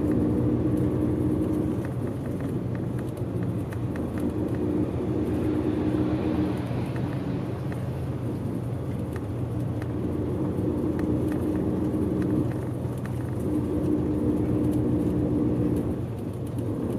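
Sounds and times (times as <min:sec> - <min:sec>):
bus engine and road noise: 0:00.0 - 0:16.9.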